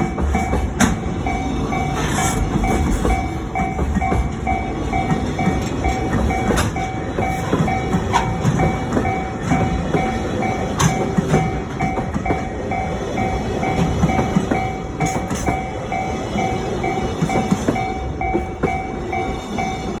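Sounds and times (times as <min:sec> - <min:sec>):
level crossing bell dinging: 0:02.6 - 0:20.0.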